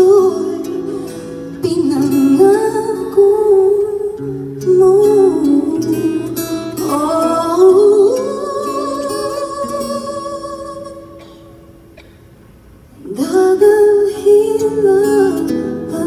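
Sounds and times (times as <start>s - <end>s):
person singing a ballad: 0.0s - 11.9s, 12.9s - 16.0s
acoustic guitar: 0.0s - 16.0s.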